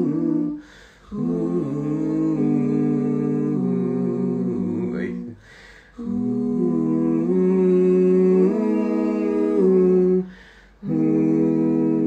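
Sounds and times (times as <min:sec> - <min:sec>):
male voices humming chords: 0:00.0 - 0:05.4, 0:06.0 - 0:12.0.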